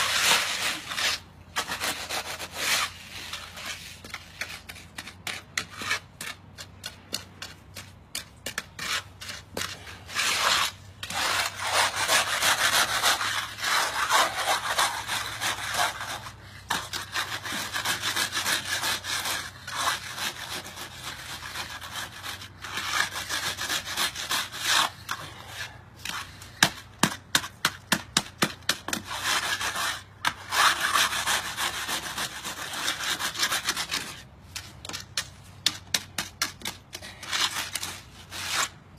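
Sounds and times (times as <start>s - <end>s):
hand float scraping concrete: 0.0s - 38.9s.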